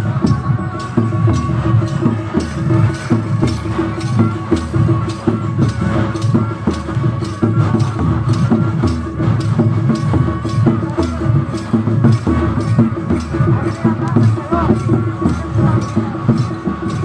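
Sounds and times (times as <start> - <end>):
drums beating steady rhythm: 0.0 - 17.0.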